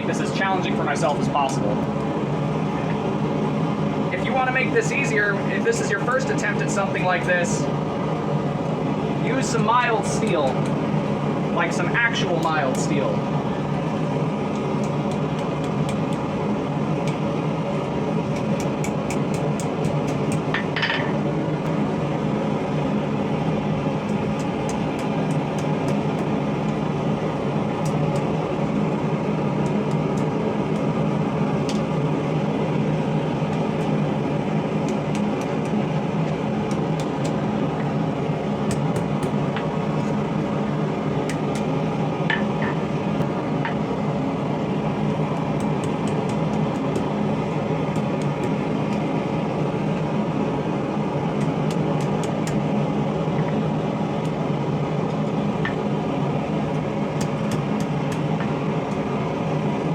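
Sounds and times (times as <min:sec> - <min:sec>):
forge humming rush: 0:00.0 - 0:59.9.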